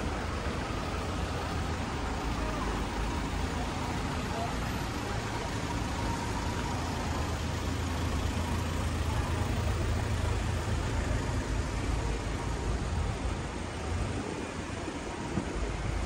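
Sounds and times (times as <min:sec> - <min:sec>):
car engines idling: 0:00.0 - 0:16.0
street noise: 0:00.0 - 0:16.0.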